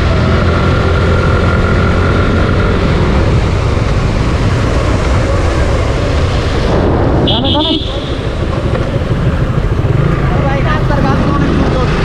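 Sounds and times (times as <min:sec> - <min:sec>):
motorcycle engine running: 0:00.0 - 0:12.0
road and rushing air noise: 0:00.0 - 0:12.0.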